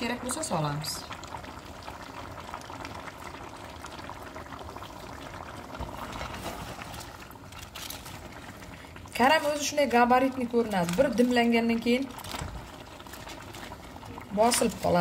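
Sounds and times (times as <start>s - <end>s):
food simmering and sizzling: 0.0s - 15.0s.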